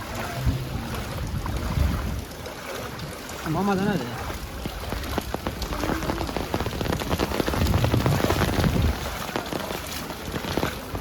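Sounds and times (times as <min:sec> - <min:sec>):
heavy rain falling: 0:00.0 - 0:11.0
raindrops ticking close by: 0:00.0 - 0:11.0.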